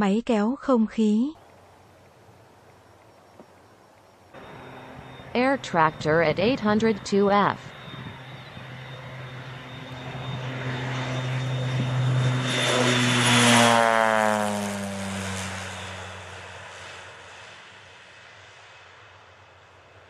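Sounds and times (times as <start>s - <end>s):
propeller plane flying past: 1.4s - 20.0s.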